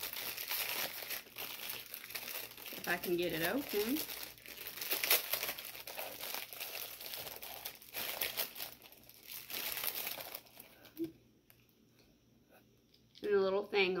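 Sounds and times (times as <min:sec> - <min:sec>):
crinkly packaging crackling: 0:00.0 - 0:11.7.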